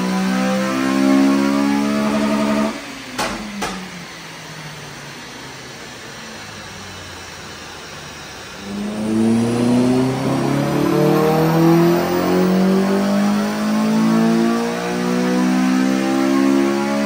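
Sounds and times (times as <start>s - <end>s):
car engine revving: 0.0s - 3.0s, 4.0s - 17.0s.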